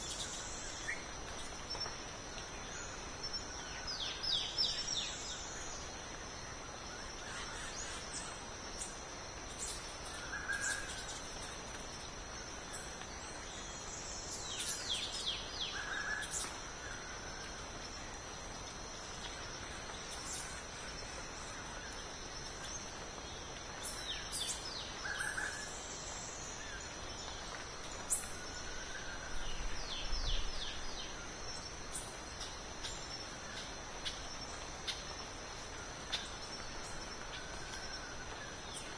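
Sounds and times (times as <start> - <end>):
songbird song: 0.0 - 38.9.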